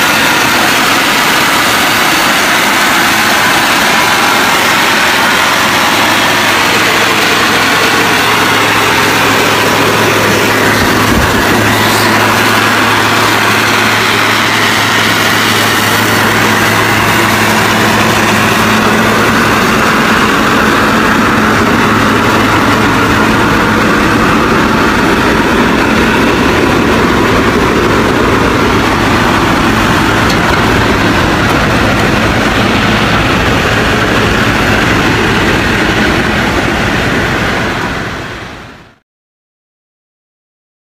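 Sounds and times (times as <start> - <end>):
road and chassis noise: 0.0 - 39.0
truck engine droning: 0.0 - 39.0.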